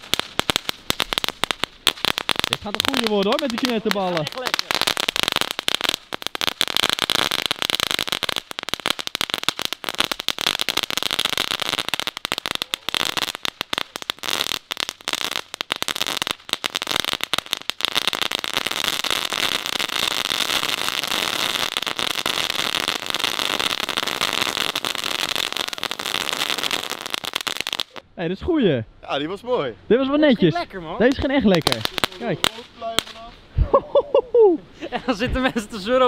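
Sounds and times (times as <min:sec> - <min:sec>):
firework crackling over hiss: 0:00.0 - 0:28.0, 0:31.2 - 0:33.4.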